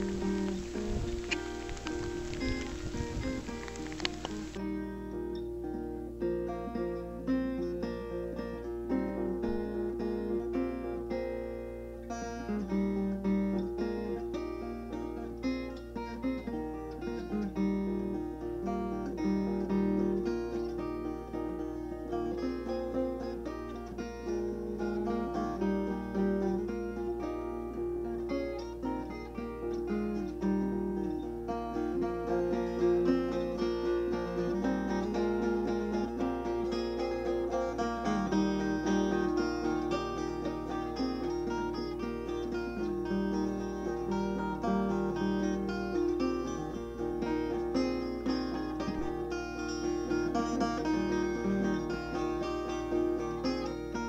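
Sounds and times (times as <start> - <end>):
acoustic guitar plucked notes: 0.0 - 54.0.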